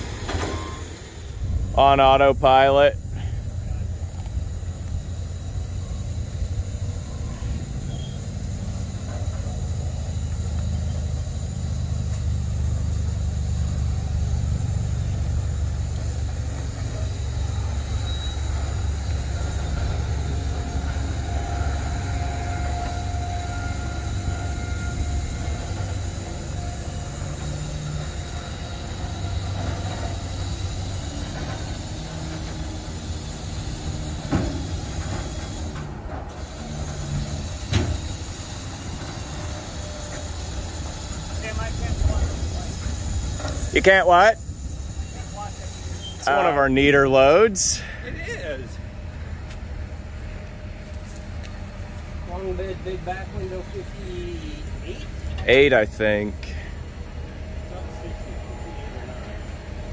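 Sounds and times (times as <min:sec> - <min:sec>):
faint high whine: 0:00.0 - 0:59.9
low mechanical rumble: 0:00.0 - 0:59.9.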